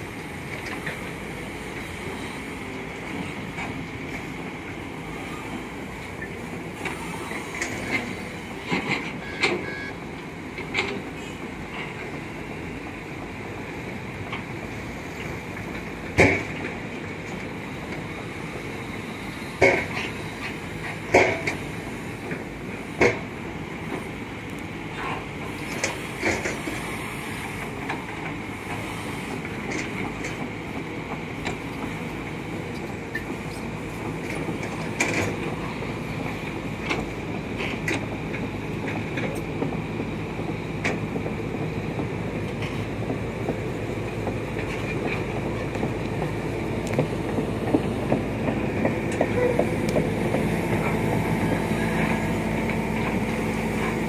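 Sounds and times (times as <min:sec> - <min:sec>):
excavator diesel engines running: 0:00.0 - 0:54.0.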